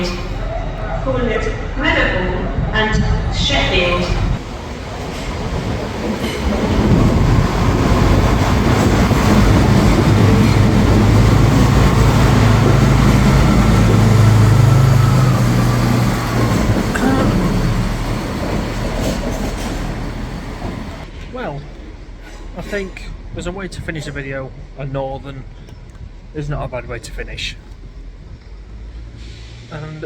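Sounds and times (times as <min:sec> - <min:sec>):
diesel train engine drone: 0:00.0 - 0:30.0
train wheels rumbling: 0:00.0 - 0:30.0.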